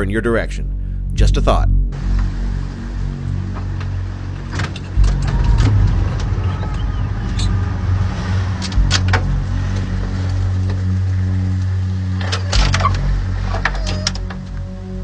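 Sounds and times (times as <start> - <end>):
engine humming steadily: 1.9 - 15.0.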